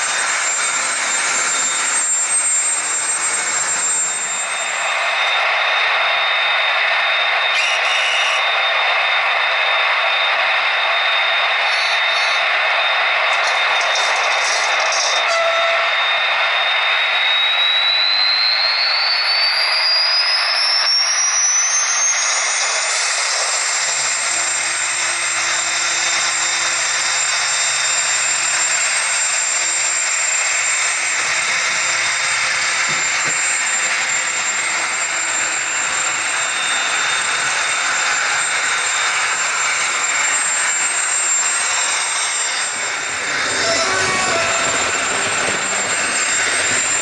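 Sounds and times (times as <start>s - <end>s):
turbine whine: 0.0s - 47.0s.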